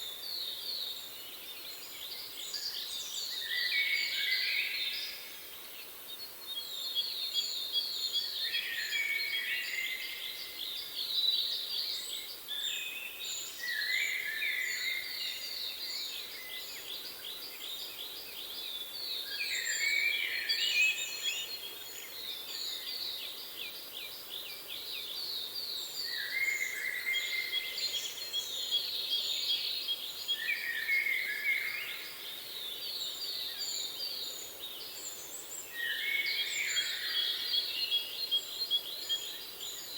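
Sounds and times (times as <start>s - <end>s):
songbirds chirping and trilling: 0.1s - 39.9s.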